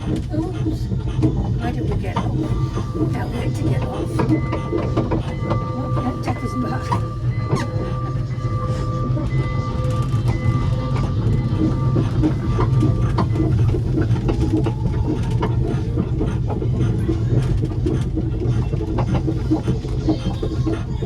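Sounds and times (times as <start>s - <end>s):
small train running on track: 0.0s - 21.0s
wheels clicking on rails: 0.0s - 21.0s.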